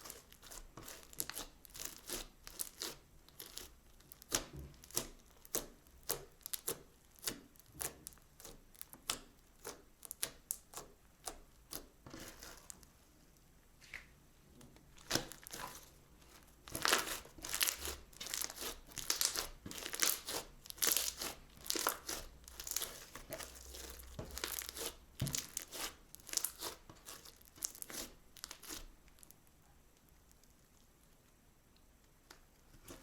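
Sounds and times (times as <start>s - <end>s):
crunchy slime crackling: 0.0s - 12.9s, 14.9s - 31.2s.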